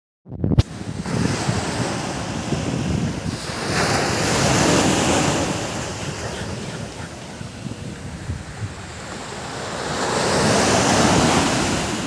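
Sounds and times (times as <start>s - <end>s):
wind buffeting microphone: 0.3s - 12.0s
surf washing onto beach: 0.6s - 12.0s.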